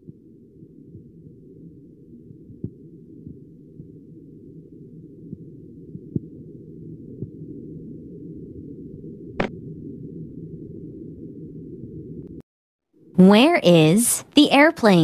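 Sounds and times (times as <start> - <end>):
muffled low hum: 0.0 - 12.4.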